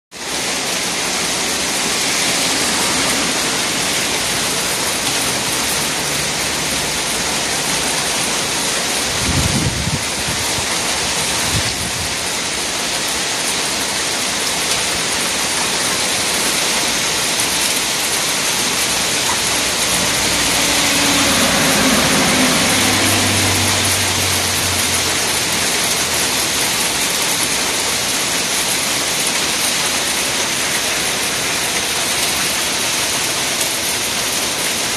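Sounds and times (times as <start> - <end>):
hail pelting an umbrella and asphalt: 0.1 - 34.9.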